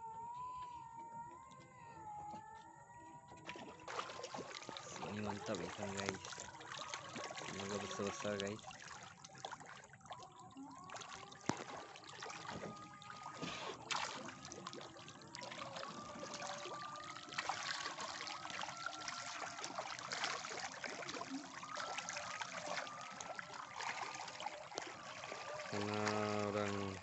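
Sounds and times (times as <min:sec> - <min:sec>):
fish splashing at surface: 0:03.4 - 0:27.0.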